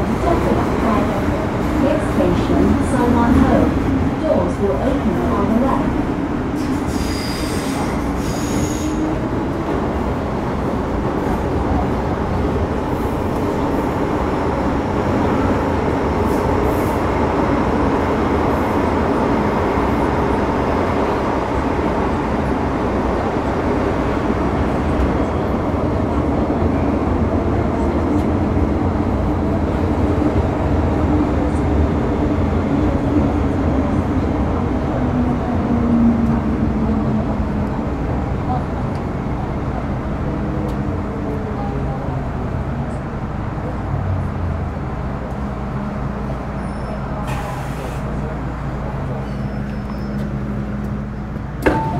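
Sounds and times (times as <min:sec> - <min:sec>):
train wheels rumbling on rail: 0:00.0 - 0:51.9.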